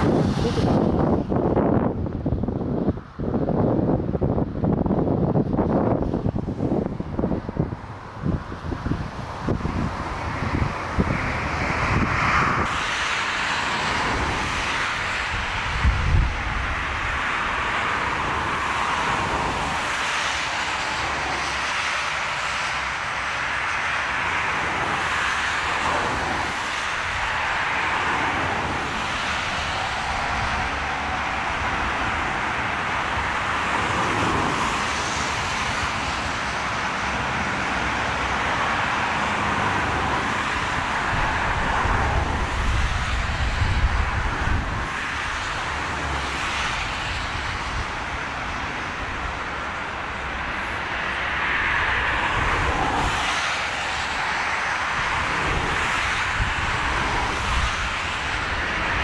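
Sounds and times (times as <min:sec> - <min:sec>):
jet engines rushing: 0:00.0 - 0:59.0
wind buffeting microphone: 0:00.0 - 0:59.0.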